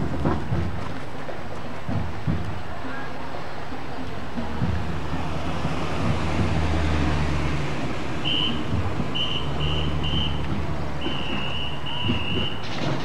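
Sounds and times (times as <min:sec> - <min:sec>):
vehicles rolling past: 0:00.0 - 0:13.0.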